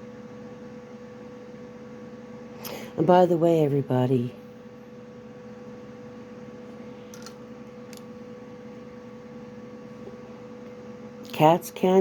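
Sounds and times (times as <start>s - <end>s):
computer cooling fan whirring: 0.0s - 12.0s.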